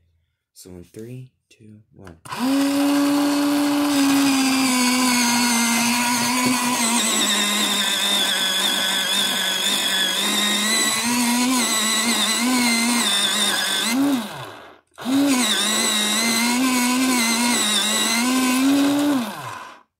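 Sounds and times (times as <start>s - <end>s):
electric pencil sharpener whining: 2.3s - 19.9s.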